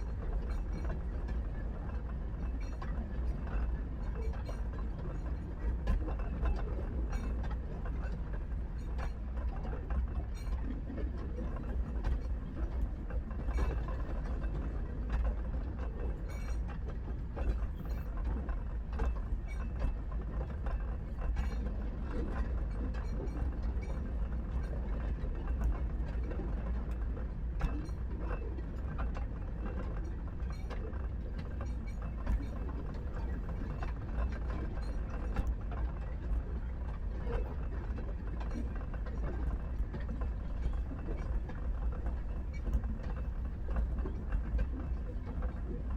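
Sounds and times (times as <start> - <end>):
train clicking and clattering: 0.0 - 45.9
train rumble: 0.0 - 45.9.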